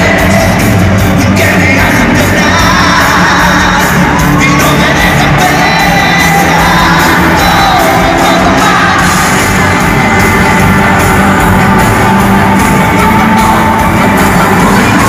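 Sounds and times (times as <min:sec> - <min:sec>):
live pop band with singer: 0:00.0 - 0:15.0.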